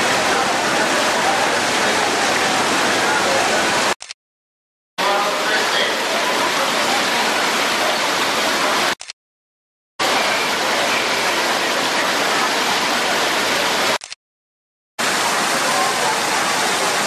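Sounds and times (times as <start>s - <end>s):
waterfall rushing and splashing: 0.0s - 4.0s, 5.0s - 9.0s, 10.0s - 14.0s, 15.0s - 17.0s.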